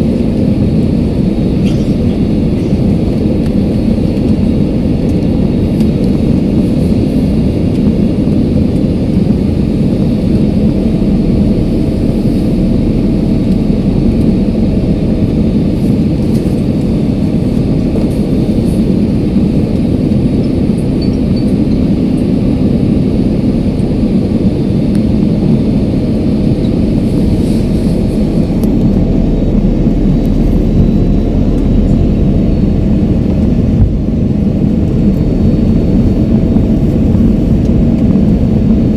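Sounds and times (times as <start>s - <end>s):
jet engines and airflow rumble: 0.0s - 38.9s.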